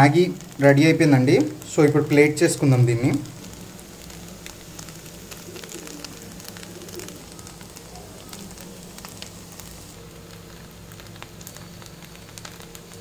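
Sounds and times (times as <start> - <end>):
noodles sizzling in a pan: 0.0 - 13.0.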